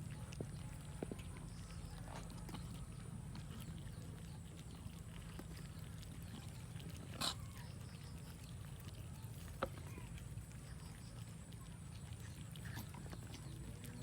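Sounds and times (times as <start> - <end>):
cats chewing clicks: 0.0 - 14.0.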